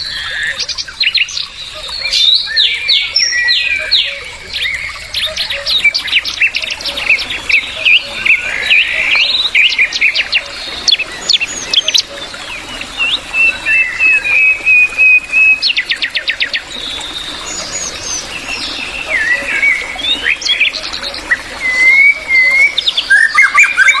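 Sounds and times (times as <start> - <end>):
bulbul singing: 0.0 - 24.0.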